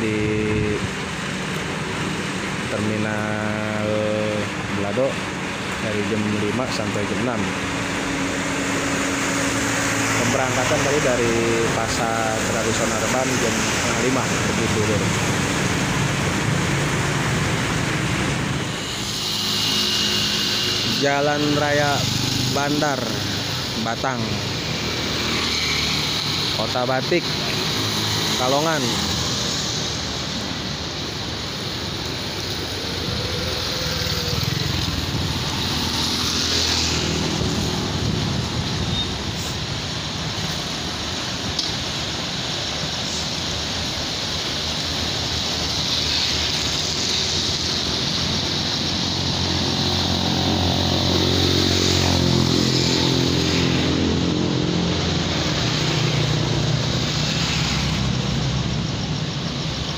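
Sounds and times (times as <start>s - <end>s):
traffic on a wet road: 0.0s - 59.9s.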